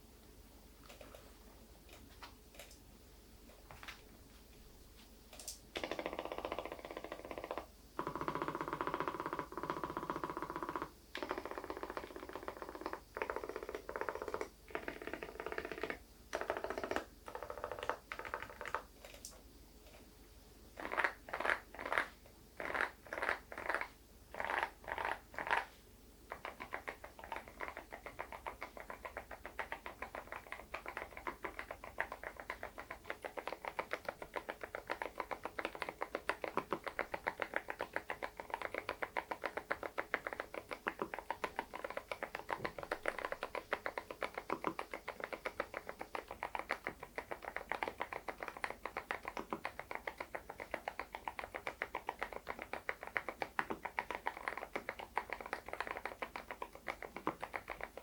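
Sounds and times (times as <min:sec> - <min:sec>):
soft keyboard typing: 0:00.8 - 0:02.8, 0:05.3 - 0:20.1, 0:20.8 - 0:58.0.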